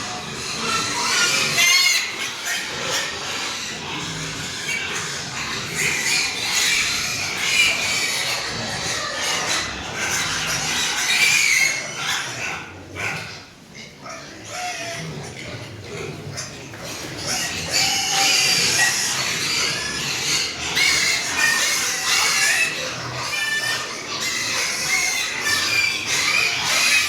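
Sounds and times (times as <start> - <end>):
pigs squealing: 0.0 - 27.0.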